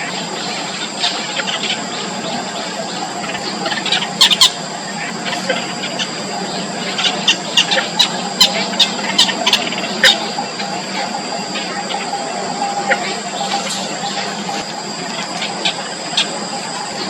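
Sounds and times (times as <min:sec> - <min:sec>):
bird chicks squealing: 0:00.0 - 0:17.0
steady background hum: 0:00.0 - 0:17.0.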